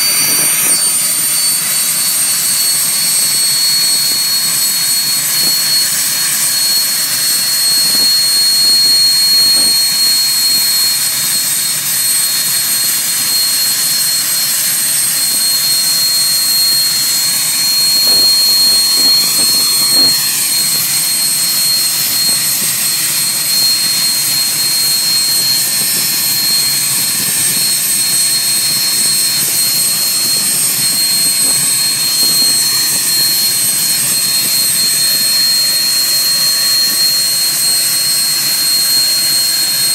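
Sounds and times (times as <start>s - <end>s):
jet engine high-pitched whine: 0.0s - 39.9s.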